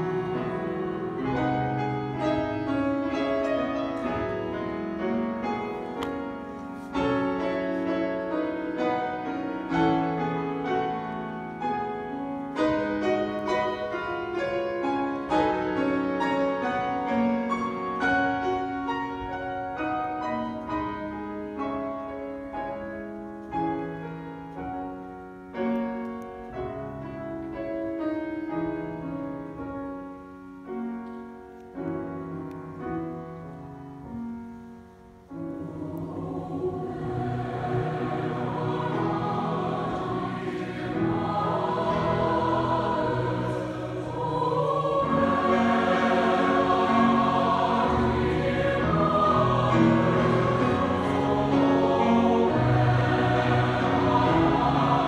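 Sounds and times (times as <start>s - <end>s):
grand piano playing: 0.0s - 55.0s.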